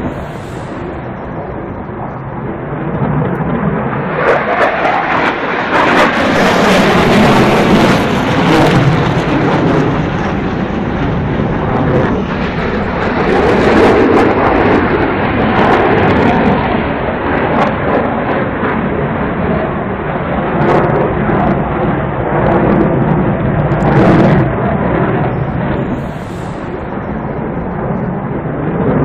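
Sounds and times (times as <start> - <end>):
fighter jet roaring overhead: 0.0 - 29.0.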